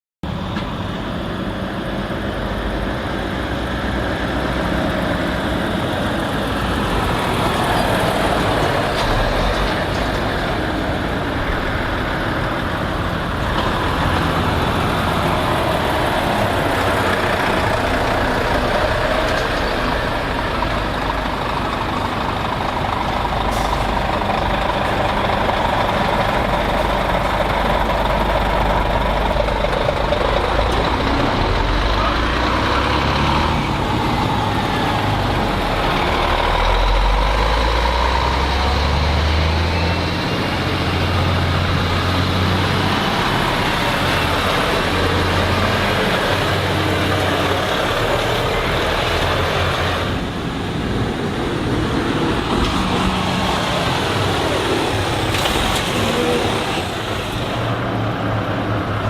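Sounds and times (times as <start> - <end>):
lorry engines running: 0.2 - 59.0.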